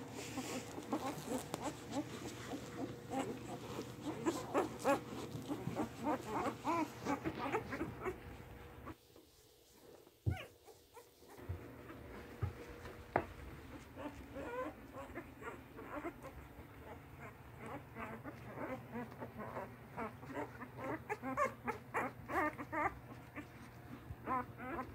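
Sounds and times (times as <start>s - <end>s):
puppies squeaking and whimpering: 0.0s - 9.0s, 10.2s - 24.9s
low steady hum: 0.0s - 24.9s.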